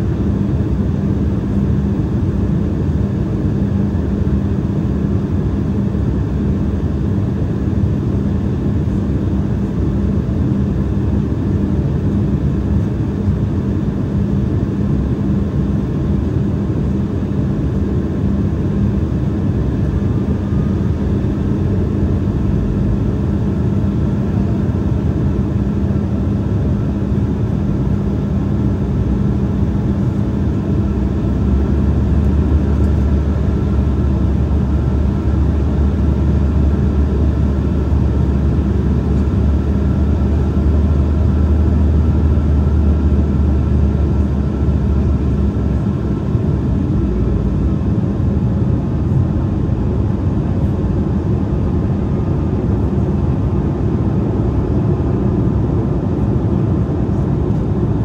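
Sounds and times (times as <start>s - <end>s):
jet engines humming: 0.0s - 58.0s.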